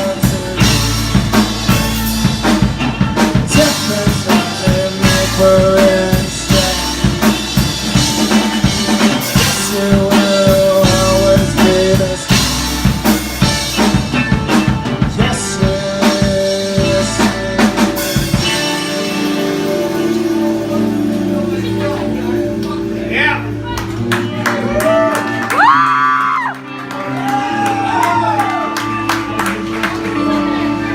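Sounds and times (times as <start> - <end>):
held melody notes: 0.0 - 25.2
bass guitar: 0.0 - 30.9
drum kit beat: 0.0 - 30.9.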